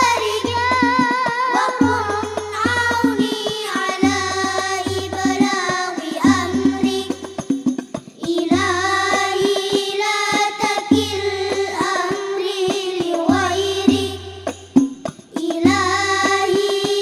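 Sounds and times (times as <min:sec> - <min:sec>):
children singing in unison: 0:00.0 - 0:17.0
hand-struck frame drums: 0:00.0 - 0:17.0.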